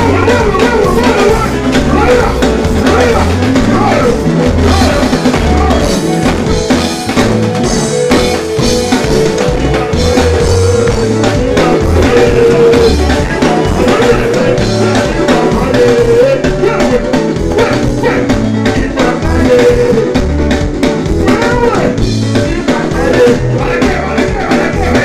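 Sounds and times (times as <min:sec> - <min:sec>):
person singing: 0:00.0 - 0:20.3, 0:21.1 - 0:25.0
drum kit beat: 0:00.0 - 0:25.0
live band music: 0:00.0 - 0:25.0.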